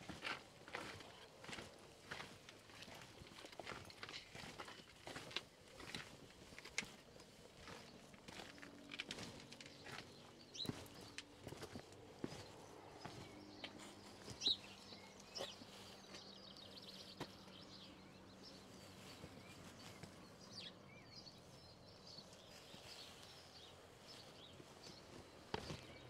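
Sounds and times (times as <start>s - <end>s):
footsteps on a path: 0.0s - 26.0s
small birds chirping and trilling: 0.1s - 26.0s.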